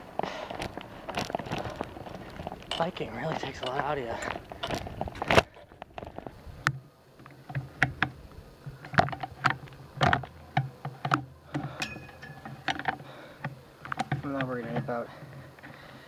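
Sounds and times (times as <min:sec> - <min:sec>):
bicycle clicking and clattering: 0:00.0 - 0:06.4, 0:08.8 - 0:15.9
steady low hum: 0:00.0 - 0:16.0.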